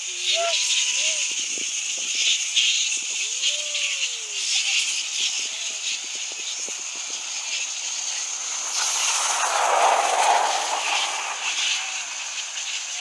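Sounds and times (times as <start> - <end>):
broad rushing noise: 0.0 - 13.0
high-pitched bat chatter: 0.0 - 13.0.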